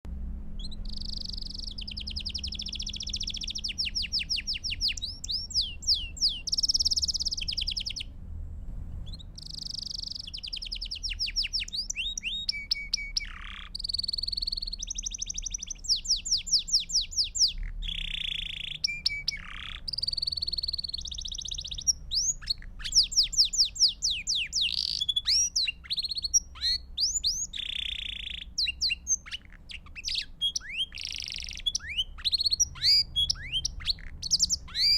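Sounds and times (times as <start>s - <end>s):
faint low hum: 0.0s - 34.9s
canary singing trills: 0.5s - 8.1s, 9.0s - 34.9s.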